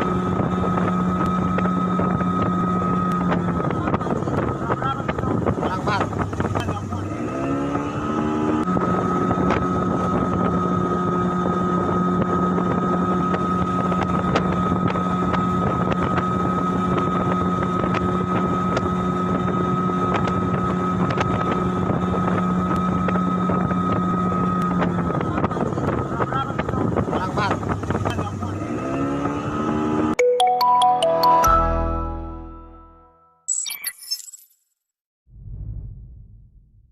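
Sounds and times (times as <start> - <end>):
boat engine droning: 0.0 - 30.2
wind rushing on microphone: 0.0 - 30.2.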